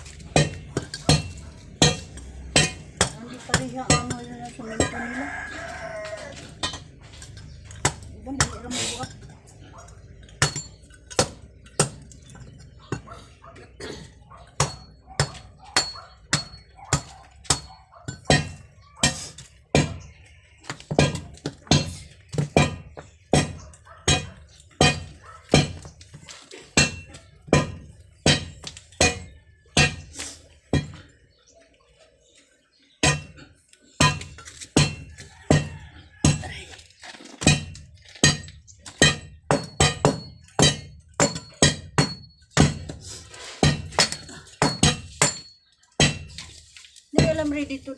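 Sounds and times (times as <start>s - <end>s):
metal hand tool striking: 0.0s - 5.0s, 6.3s - 9.4s, 10.2s - 13.2s, 13.8s - 31.1s, 33.0s - 33.4s, 34.0s - 36.5s, 37.4s - 46.6s.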